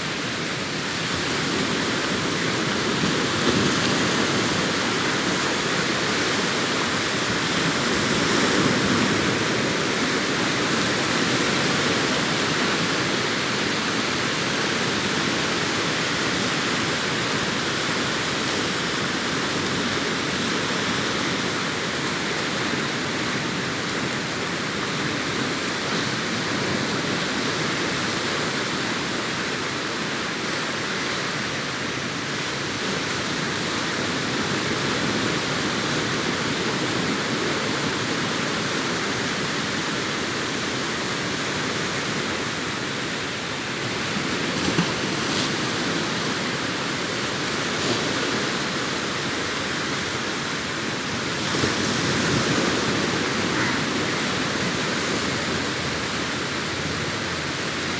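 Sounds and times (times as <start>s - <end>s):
sea waves washing on a beach: 0.0s - 57.9s.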